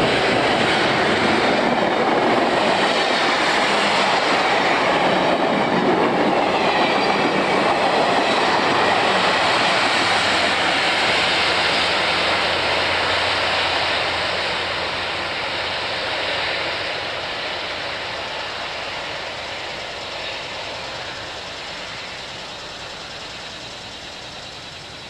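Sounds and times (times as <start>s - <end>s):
train rumble and wheel noise: 0.0s - 25.0s.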